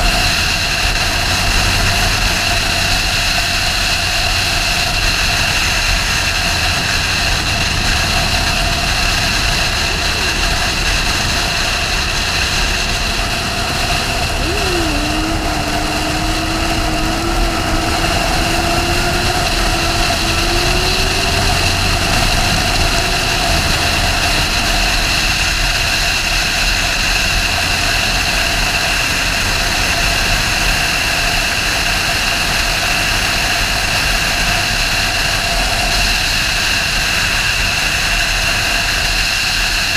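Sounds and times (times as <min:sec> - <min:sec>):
wind noise: 0:00.0 - 0:32.0
motorcycle engine: 0:00.0 - 0:35.9.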